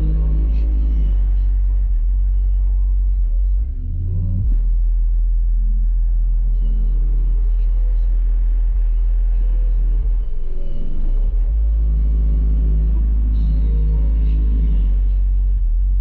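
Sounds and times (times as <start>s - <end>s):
deep bass notes from subwoofers: 0.0s - 16.0s.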